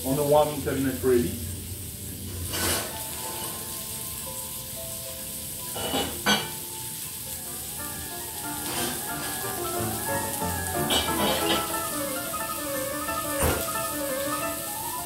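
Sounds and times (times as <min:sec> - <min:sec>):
shrimp sizzling on hot plate: 0:00.0 - 0:15.0.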